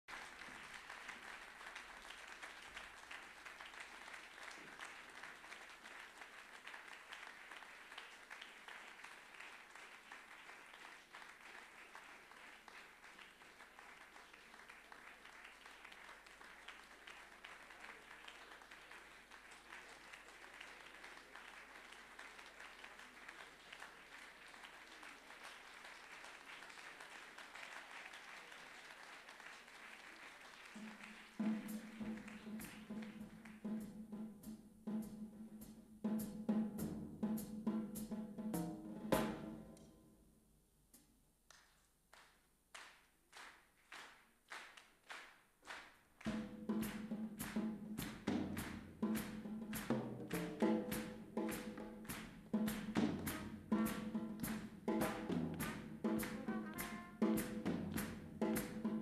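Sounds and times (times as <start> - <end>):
audience applauding: 0.1 - 33.9, 41.5 - 59.0.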